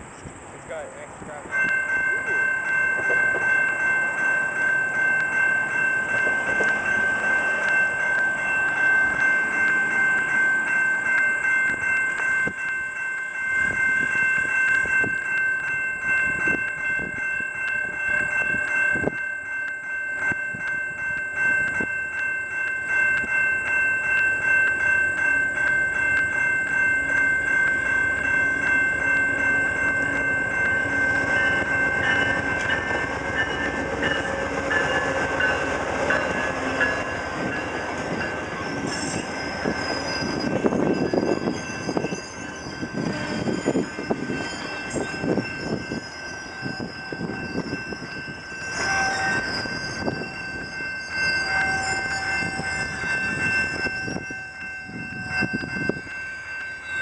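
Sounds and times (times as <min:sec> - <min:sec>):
diesel train passing: 0:00.0 - 0:57.0
level crossing bell ringing: 0:01.4 - 0:57.0.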